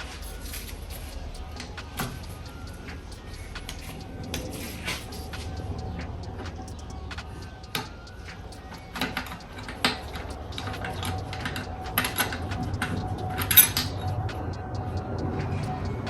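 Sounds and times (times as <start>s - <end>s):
gearbox parts clicking and knocking: 0.0s - 16.0s.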